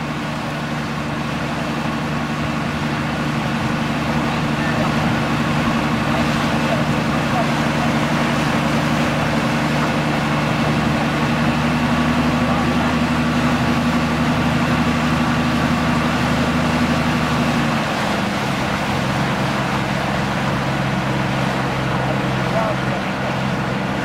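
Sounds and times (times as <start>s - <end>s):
outboard motor engine drone: 0.0s - 24.0s
water rushing: 0.0s - 24.0s
wind: 0.0s - 24.0s.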